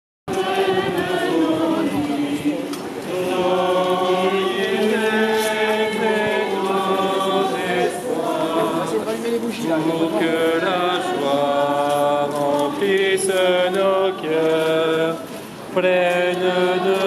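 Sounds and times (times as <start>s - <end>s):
group singing a hymn: 0.3s - 17.0s.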